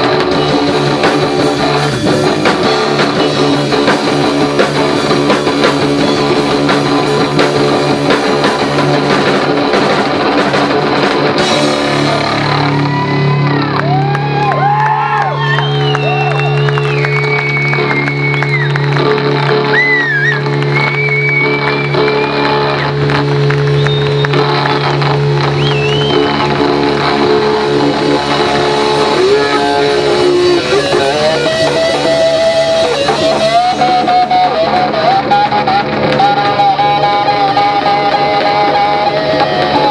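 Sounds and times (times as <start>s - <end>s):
electric guitar lead line: 0.0s - 39.9s
heavy rock band playing: 0.0s - 39.9s
pounding drum kit: 0.0s - 39.9s.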